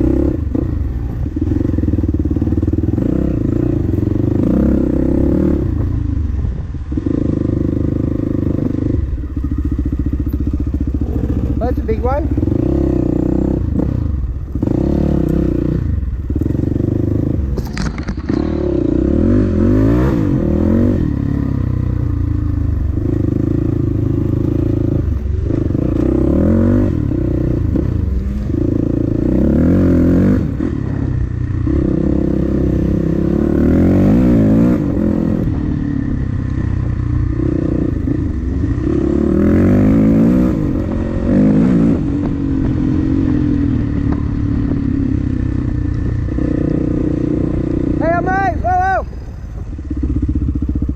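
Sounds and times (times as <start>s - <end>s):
dirt bike engine revving: 0.0s - 6.0s, 6.9s - 50.9s.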